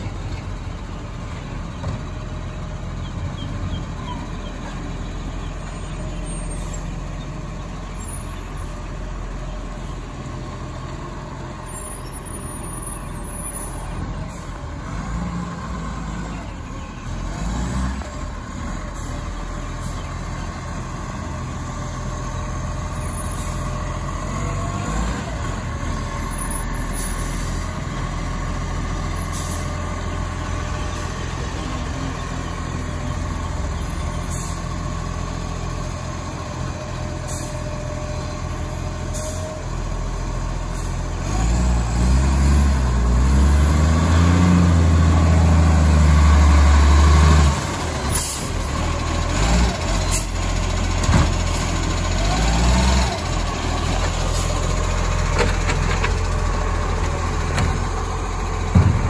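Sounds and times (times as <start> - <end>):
garbage truck diesel engine: 0.0 - 59.0.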